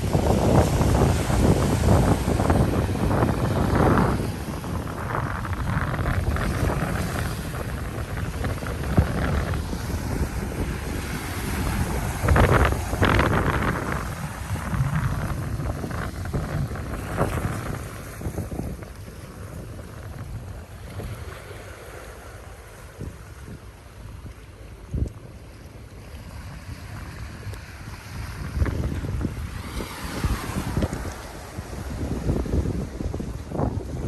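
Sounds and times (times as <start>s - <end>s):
wind buffeting microphone: 0.0s - 21.7s, 22.3s - 34.0s
sea waves washing onto beach: 0.0s - 34.0s.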